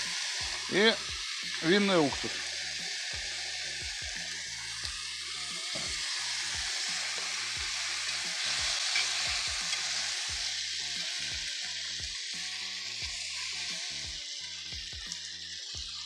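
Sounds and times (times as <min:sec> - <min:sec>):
onions sizzling in frying pan: 0:00.0 - 0:16.0.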